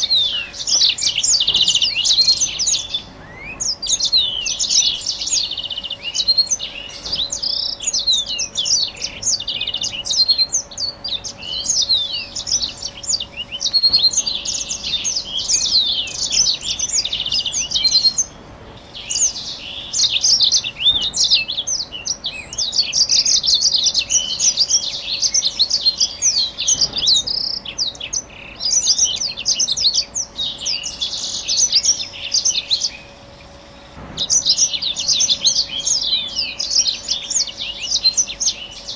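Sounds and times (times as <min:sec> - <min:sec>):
canary warbling song: 0:00.0 - 0:38.9
faint steady hum: 0:00.0 - 0:38.9.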